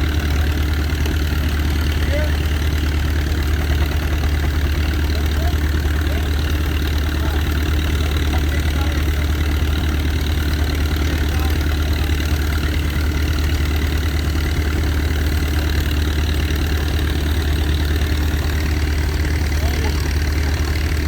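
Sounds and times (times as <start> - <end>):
steam engine mechanical drone: 0.0 - 21.0.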